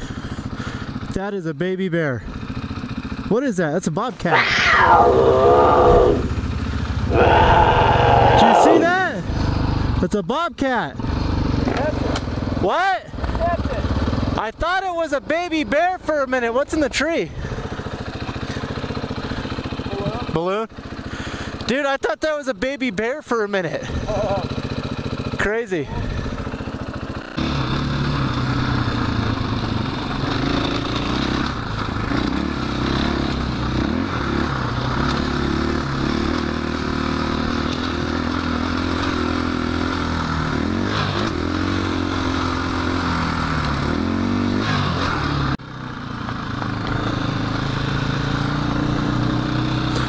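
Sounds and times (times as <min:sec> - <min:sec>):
dirt bike engine revving: 0:04.3 - 0:10.0, 0:11.0 - 0:21.6, 0:23.6 - 0:50.0.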